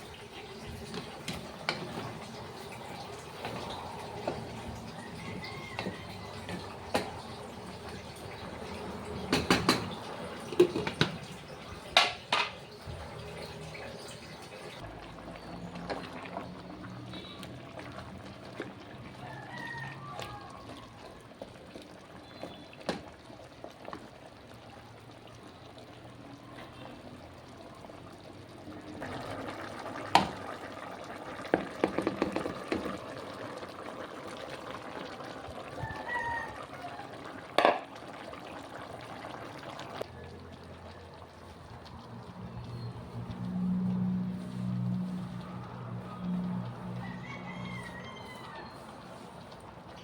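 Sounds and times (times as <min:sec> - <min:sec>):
liquid pouring and sloshing: 0:00.0 - 0:50.0.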